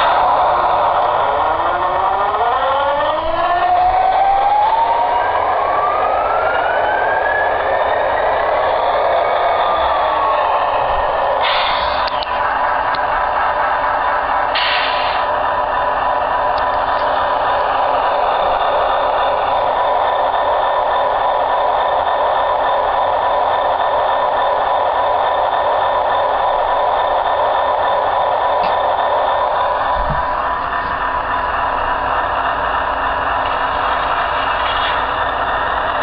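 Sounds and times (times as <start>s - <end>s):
diesel engine sound through speaker: 0.0s - 36.0s.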